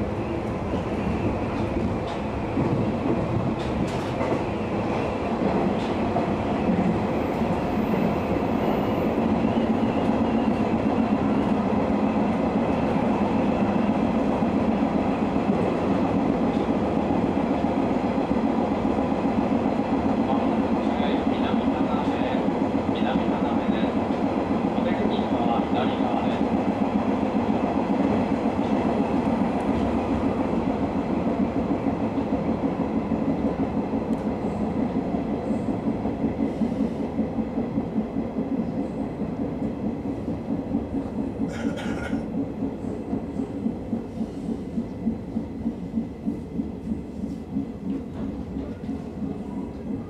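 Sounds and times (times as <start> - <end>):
train wheels and motors rumbling: 0.0 - 50.0.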